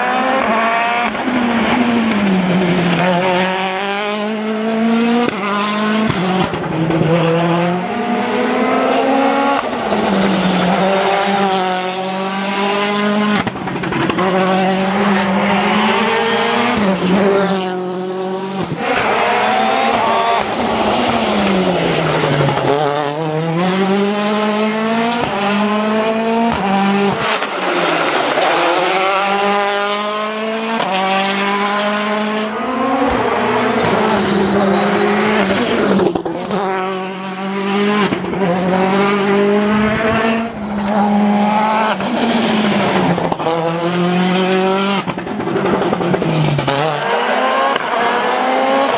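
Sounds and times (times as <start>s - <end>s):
rally car engine revving: 0.0s - 48.9s.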